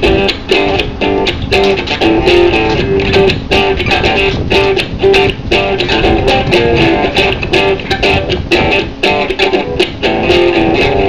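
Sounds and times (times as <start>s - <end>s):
guitar-led music with steady beat: 0.0s - 11.0s.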